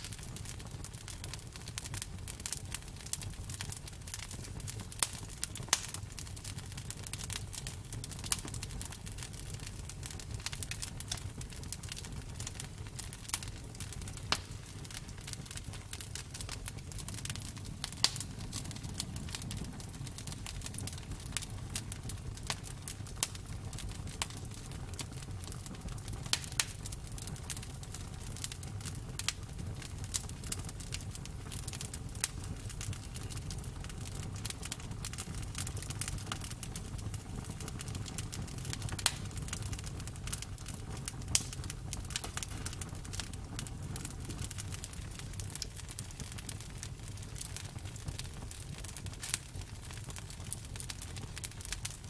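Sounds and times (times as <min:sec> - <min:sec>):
campfire crackling and popping: 0:00.0 - 0:52.0
flames rumbling: 0:00.0 - 0:52.0.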